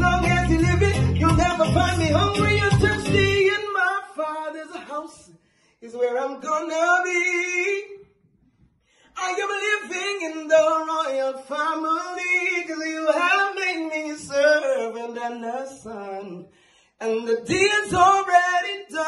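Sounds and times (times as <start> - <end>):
man singing unaccompanied: 0.0 - 8.1, 9.1 - 19.0.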